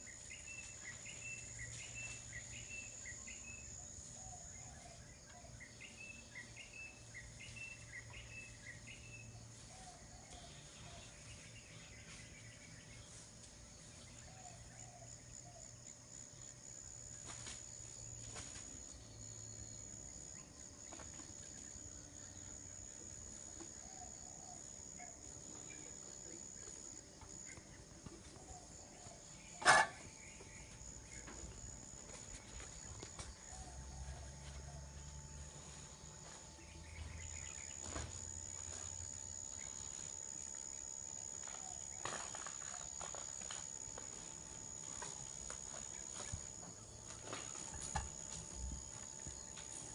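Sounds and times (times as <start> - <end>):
insect trill: 0.0 - 49.9.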